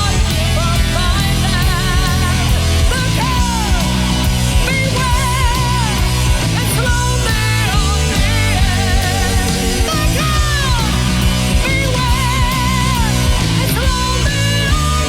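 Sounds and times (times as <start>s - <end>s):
bass and drum backing: 0.0s - 15.0s
distorted electric guitar lead: 0.0s - 15.0s.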